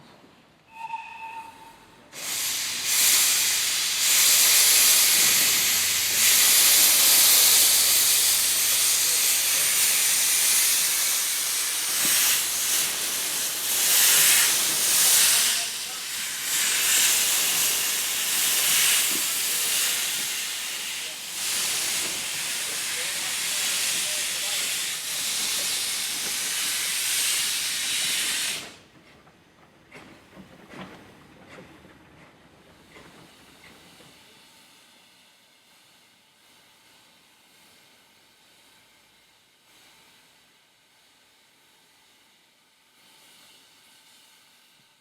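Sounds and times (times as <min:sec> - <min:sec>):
steam locomotive hissing: 0:00.7 - 0:29.0, 0:29.8 - 0:45.0.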